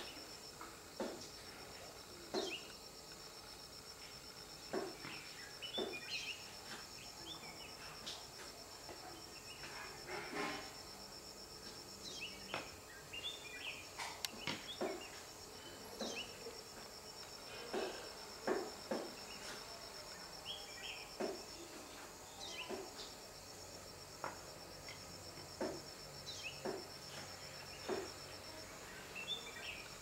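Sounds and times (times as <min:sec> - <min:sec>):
faint chirps: 0:00.0 - 0:30.0.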